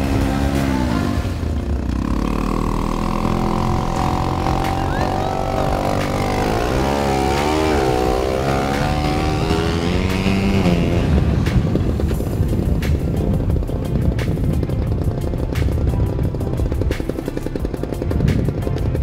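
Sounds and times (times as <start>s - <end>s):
vehicle engine running under load: 0.0s - 19.0s.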